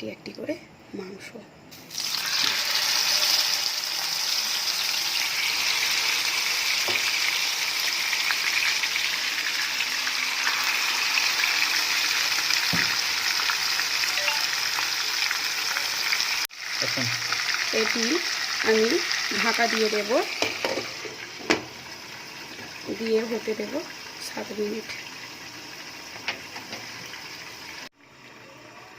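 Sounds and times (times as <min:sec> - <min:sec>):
chicken sizzling in hot oil: 0:01.7 - 0:28.9.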